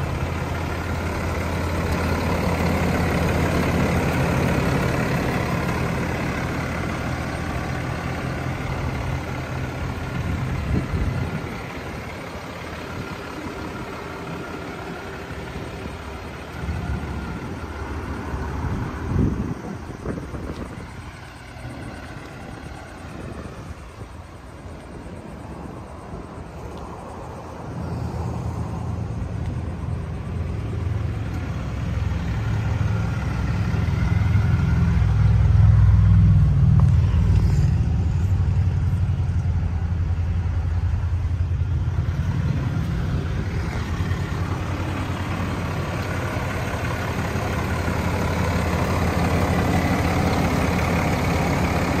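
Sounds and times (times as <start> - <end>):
pickup engine idling: 0.0 - 52.0.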